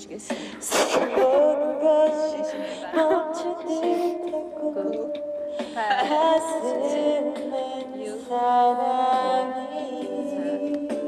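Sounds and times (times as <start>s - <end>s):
backing music: 0.0s - 11.0s
woman singing into a microphone: 0.0s - 11.0s.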